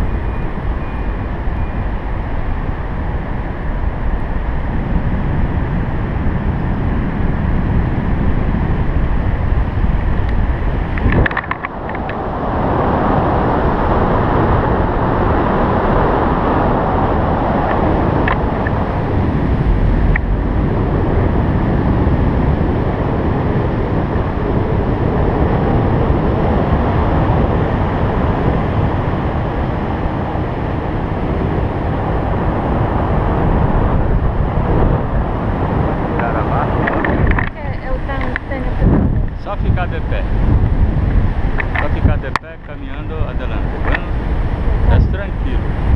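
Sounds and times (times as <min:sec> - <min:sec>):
wind noise on microphone: 0:00.0 - 0:45.9.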